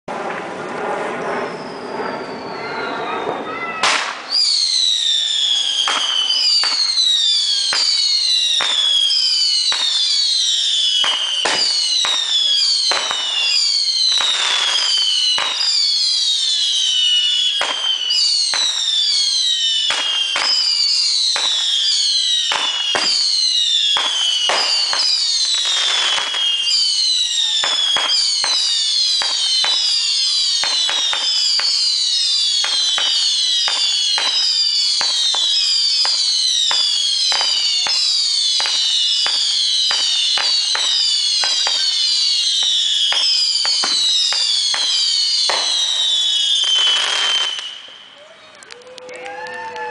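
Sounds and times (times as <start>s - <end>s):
firework whistles falling in pitch: 1.2s - 49.9s
firework pops and cracks: 3.8s - 16.7s, 17.3s - 49.9s.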